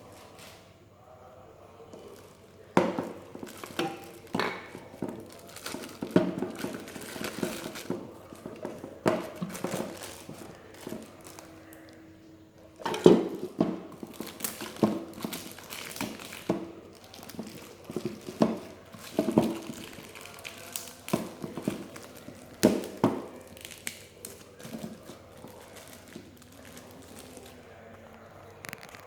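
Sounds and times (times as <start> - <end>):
hard plastic parts knocking: 1.9 - 11.5, 12.8 - 27.6.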